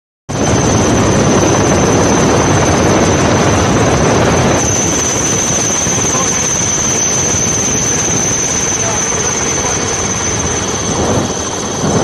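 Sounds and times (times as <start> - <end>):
helicopter drone with high whine: 0.3 - 12.0.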